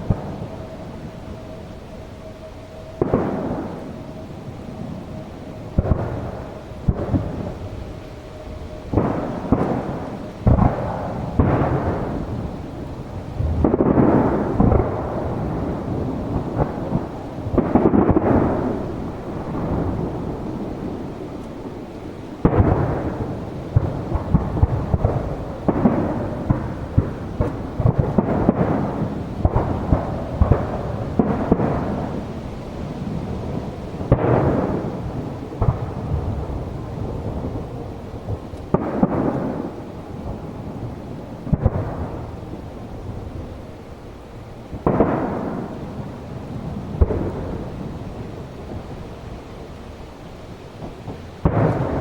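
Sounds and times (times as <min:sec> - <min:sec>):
firework shells booming: 0:00.0 - 0:44.1, 0:44.7 - 0:49.7, 0:50.8 - 0:52.0
rumbling echo: 0:00.0 - 0:52.0.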